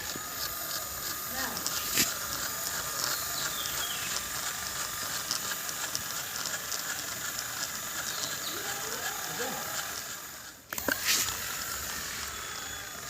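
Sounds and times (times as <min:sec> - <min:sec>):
electric motor hiss: 0:00.0 - 0:13.0
gearbox clicking: 0:00.0 - 0:13.0.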